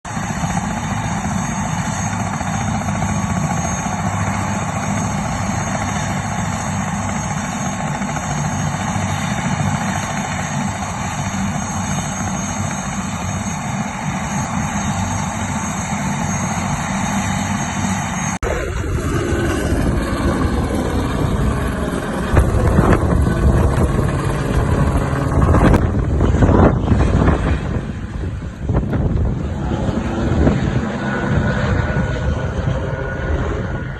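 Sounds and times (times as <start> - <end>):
helicopter rotor and turbine: 0.0 - 33.9.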